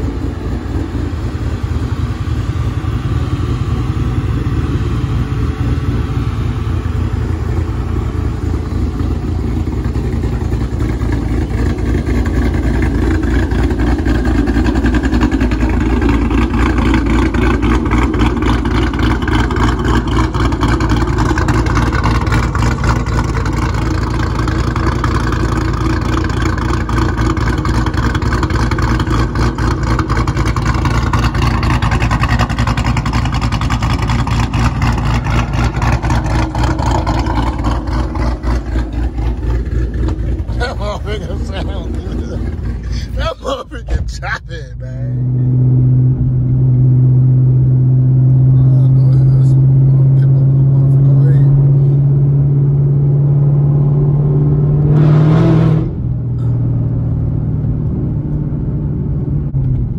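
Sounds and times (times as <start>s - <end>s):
car engine idling with deep rumble: 0.0s - 54.9s, 55.8s - 59.9s.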